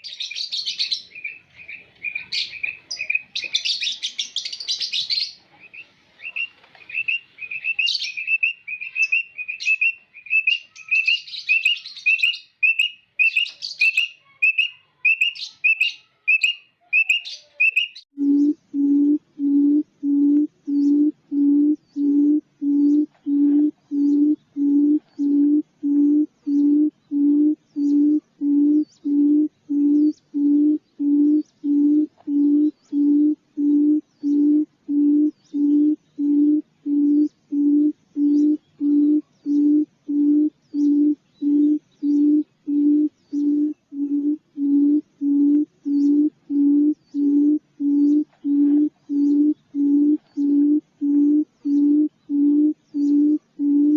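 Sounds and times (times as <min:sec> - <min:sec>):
faint high chirps: 0:00.0 - 0:53.9
low hooting quail call: 0:00.0 - 0:53.9.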